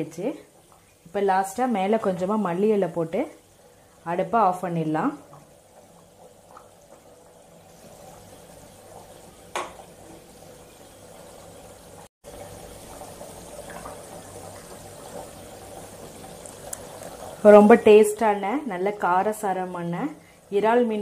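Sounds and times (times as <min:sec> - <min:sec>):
curry bubbling in a pot: 0:00.3 - 0:20.6.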